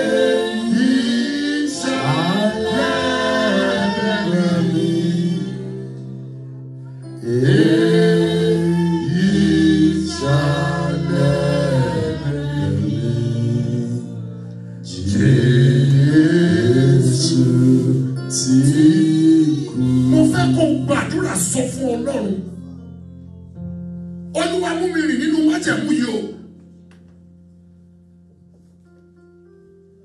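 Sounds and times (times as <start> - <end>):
gospel singing: 0.0 - 23.0, 24.4 - 26.6
sustained low instrumental chord: 0.0 - 28.4.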